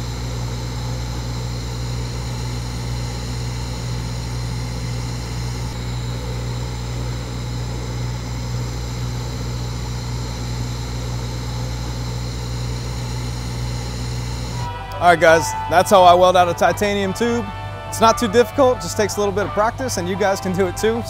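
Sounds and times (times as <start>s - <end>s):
welding arc hum and hiss: 0.0s - 21.0s.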